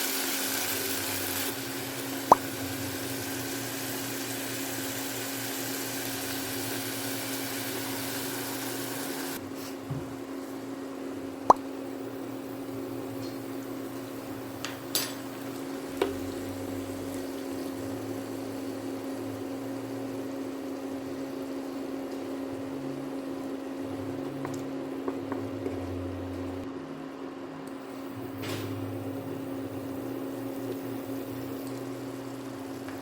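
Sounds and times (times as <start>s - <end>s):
kitchen appliance humming: 0.0s - 33.0s.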